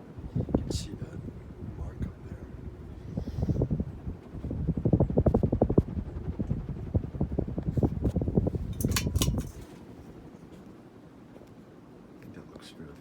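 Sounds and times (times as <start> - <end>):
fan air buffeting microphone: 0.0 - 10.7
faint hum: 0.0 - 13.0.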